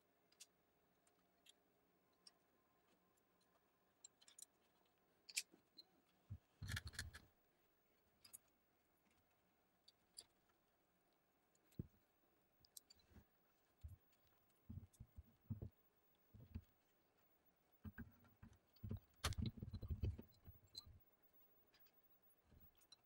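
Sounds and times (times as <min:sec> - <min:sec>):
faint clicks and knocks of parts: 0:00.0 - 0:23.0.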